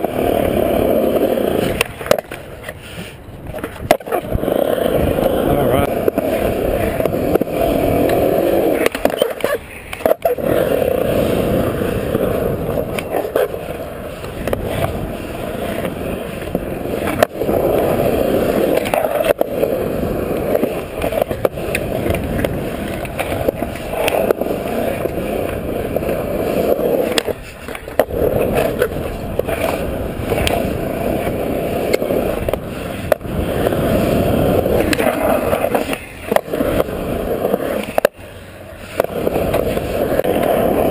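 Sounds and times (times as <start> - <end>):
skateboard clacking: 0.0 - 40.9
skateboard wheels rolling on concrete: 0.0 - 40.9.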